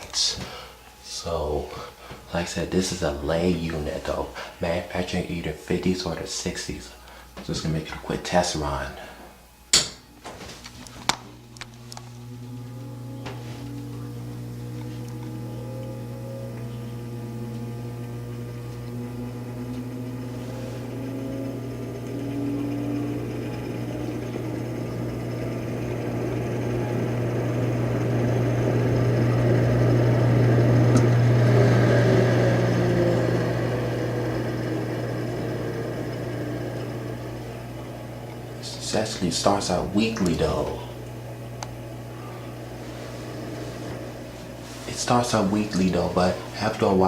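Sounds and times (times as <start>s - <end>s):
exhaust fan motor humming: 0.0s - 47.0s
fan air noise: 0.0s - 47.0s.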